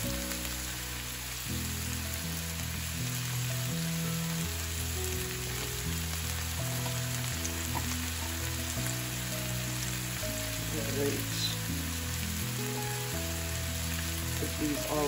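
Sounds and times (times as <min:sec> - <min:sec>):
mushrooms sizzling in a pan: 0:00.0 - 0:15.0
music of held low notes: 0:00.0 - 0:15.0.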